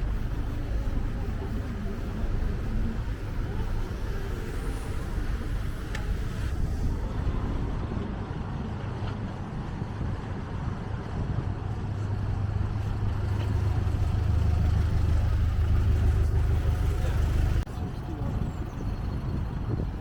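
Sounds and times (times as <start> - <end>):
city street traffic: 0.0 - 20.0
vehicle engine rumble: 0.0 - 20.0.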